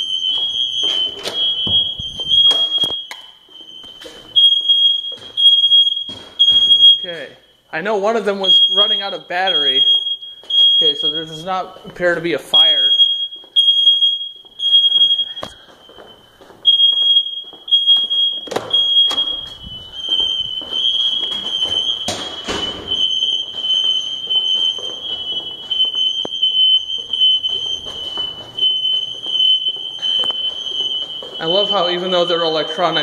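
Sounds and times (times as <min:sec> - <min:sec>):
smoke alarms beeping: 0:00.0 - 0:33.0.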